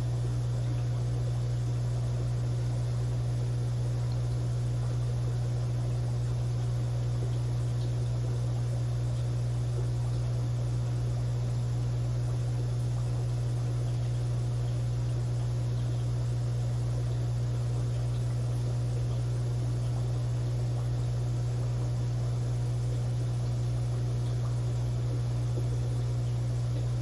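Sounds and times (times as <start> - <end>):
aquarium equipment humming: 0.0 - 27.0.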